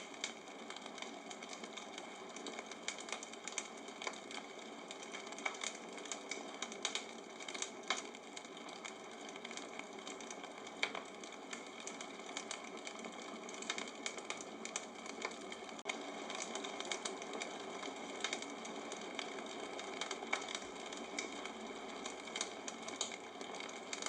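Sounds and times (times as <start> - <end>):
bonfire crackling: 0.0 - 24.0.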